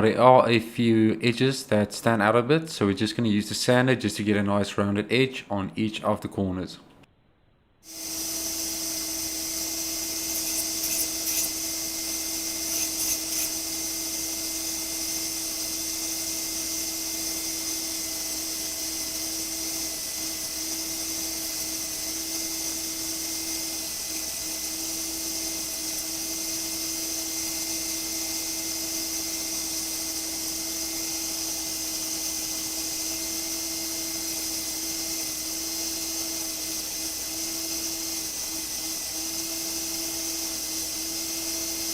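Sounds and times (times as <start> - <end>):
electric sander on wood: 7.8 - 41.9.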